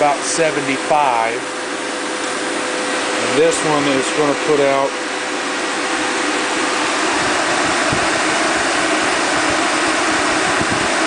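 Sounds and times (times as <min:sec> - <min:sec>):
fan and pumps rushing: 0:00.0 - 0:11.0.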